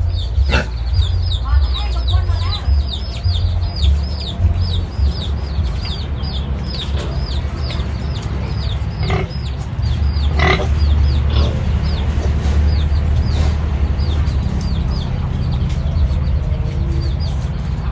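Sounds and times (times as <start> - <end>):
chicks peeping: 0.0 - 17.9
low rumble: 0.0 - 17.9
piglet calls: 0.0 - 17.9.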